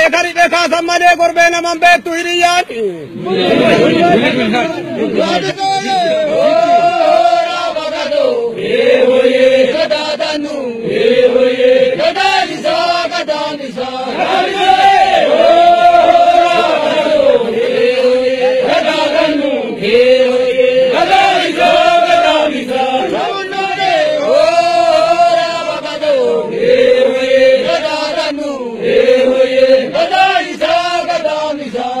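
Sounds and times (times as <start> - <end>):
men chanting together: 3.2 - 32.0.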